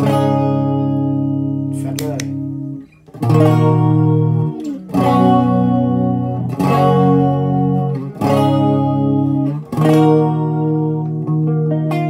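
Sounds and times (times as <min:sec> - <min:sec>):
electric guitar chords with chorus: 0:00.0 - 0:12.0.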